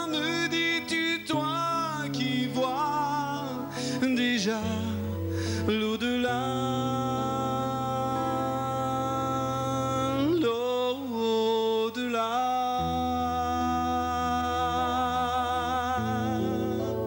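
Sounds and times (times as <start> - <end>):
electric guitar lead note: 0.0 - 10.5, 12.8 - 17.0.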